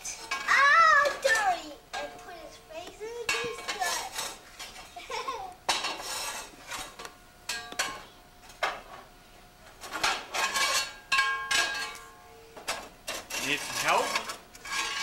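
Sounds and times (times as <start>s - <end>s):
scraping in brick fireplace: 0.0s - 7.8s, 9.7s - 15.0s.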